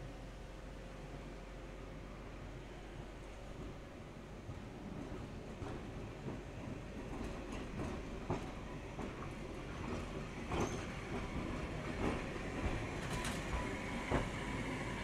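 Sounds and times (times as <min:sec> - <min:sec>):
tram running on track: 0:00.0 - 0:15.0.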